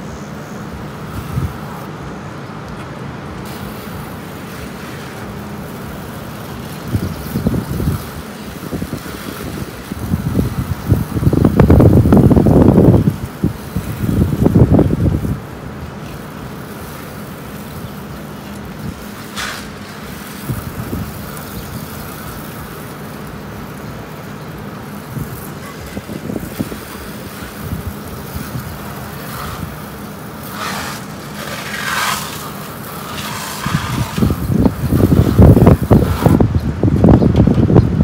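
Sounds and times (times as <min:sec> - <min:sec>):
water spray hissing: 0:00.0 - 0:36.5
pressure washer hum: 0:00.0 - 0:37.8.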